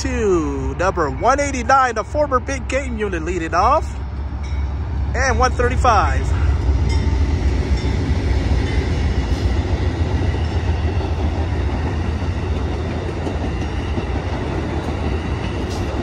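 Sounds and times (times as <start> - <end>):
diesel locomotive passing: 0.0 - 16.0
train wheels rumbling and clattering: 0.0 - 16.0.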